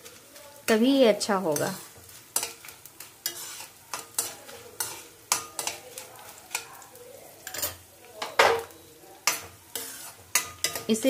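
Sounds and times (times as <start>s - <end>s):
faint sizzle of frying: 0.0s - 11.0s
steel spoon scraping and stirring: 1.4s - 11.0s.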